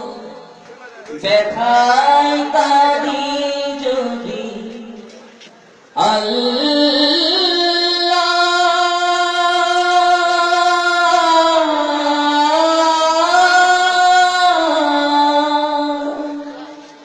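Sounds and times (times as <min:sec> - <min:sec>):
high voice singing unaccompanied: 0:01.2 - 0:05.0, 0:06.0 - 0:17.0.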